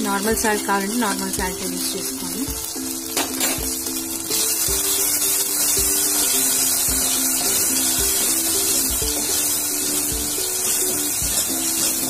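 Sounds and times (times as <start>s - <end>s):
background music with beat: 0.0s - 12.0s
masala sizzling in oil: 0.0s - 12.0s.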